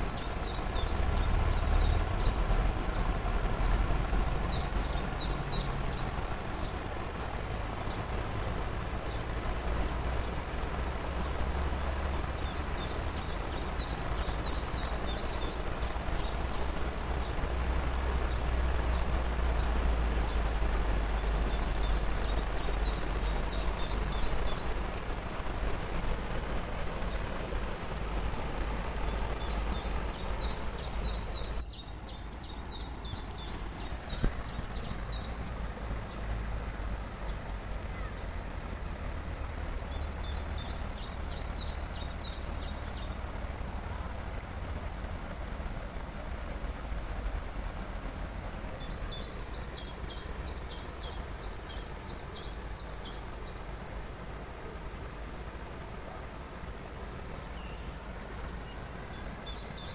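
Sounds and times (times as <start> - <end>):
songbird singing: 0.0 - 55.2, 55.8 - 59.9
waterfall rushing: 0.0 - 59.9.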